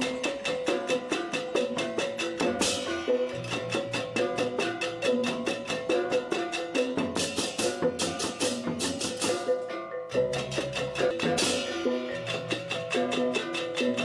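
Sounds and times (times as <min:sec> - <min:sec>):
gamelan percussion music: 0:00.0 - 0:14.0.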